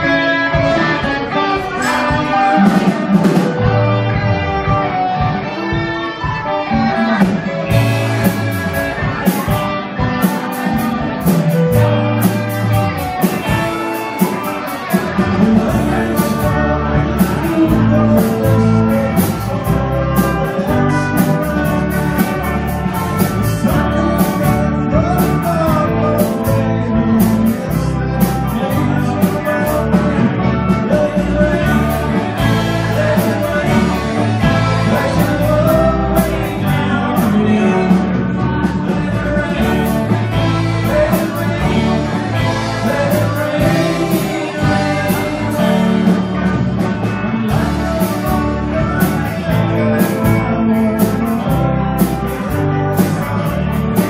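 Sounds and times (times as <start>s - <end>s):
blues-rock band playing: 0.0s - 54.0s.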